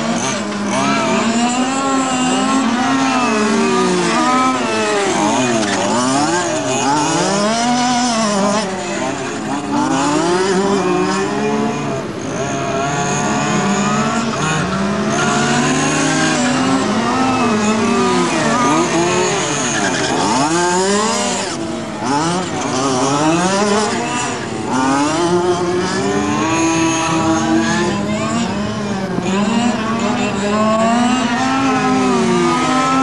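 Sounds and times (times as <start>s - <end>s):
model car engines racing: 0.0s - 33.0s.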